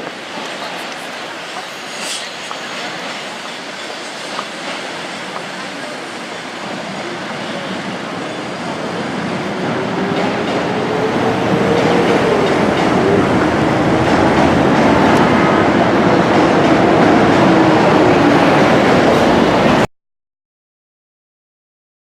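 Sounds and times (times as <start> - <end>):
train rumble: 0.0 - 19.9
train whine: 0.0 - 19.9.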